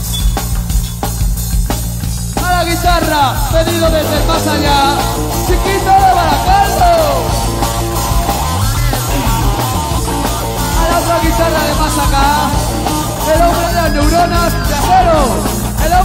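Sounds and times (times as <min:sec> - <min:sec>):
bending lead melody: 0:00.0 - 0:16.0
live pop-rock band playing: 0:00.0 - 0:16.0.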